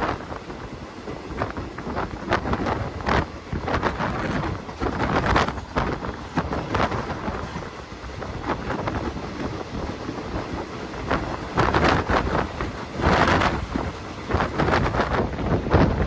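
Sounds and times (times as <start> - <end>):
train rumble: 0.0 - 16.0
wind buffeting microphone: 0.0 - 16.0.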